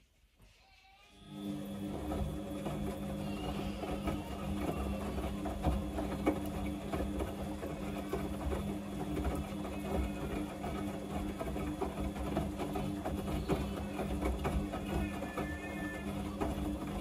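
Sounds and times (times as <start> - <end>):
washing machine motor hum: 0.1 - 17.0
laundry knocking in drum: 2.0 - 17.0.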